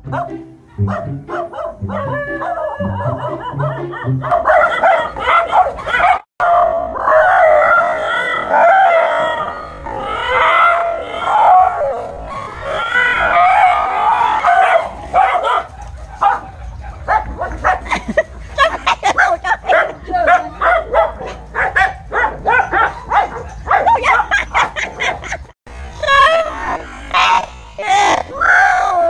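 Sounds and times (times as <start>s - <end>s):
dog barking and howling: 0.0s - 17.9s, 19.0s - 25.3s.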